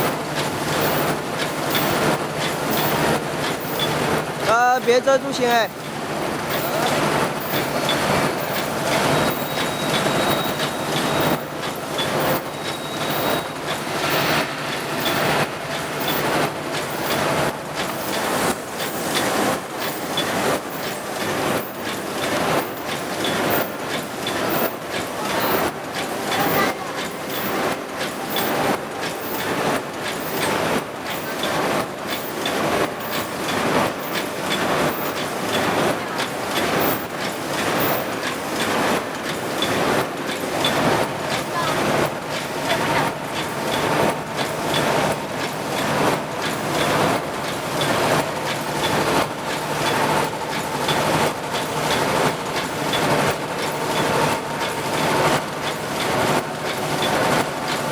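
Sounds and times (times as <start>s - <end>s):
machine clattering rhythmically: 0.0s - 57.9s.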